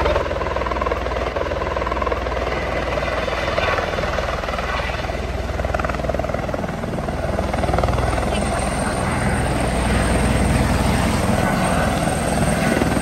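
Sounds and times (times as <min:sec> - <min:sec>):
helicopter rotor chopping: 0:00.0 - 0:13.0.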